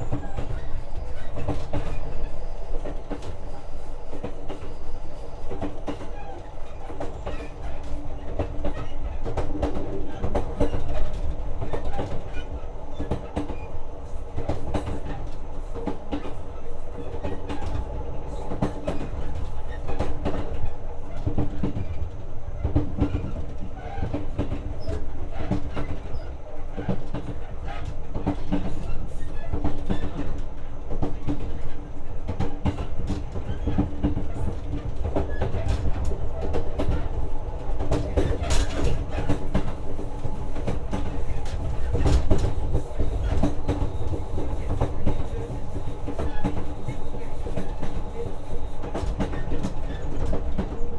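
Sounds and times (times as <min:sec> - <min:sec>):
rail joint clicks and knocks: 0:00.0 - 0:50.9
train wheels rumbling on track: 0:00.0 - 0:50.9.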